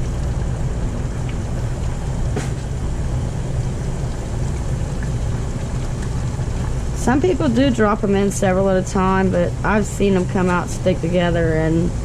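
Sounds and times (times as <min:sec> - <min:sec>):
hot oil bubbling in fryer: 0:00.0 - 0:12.0.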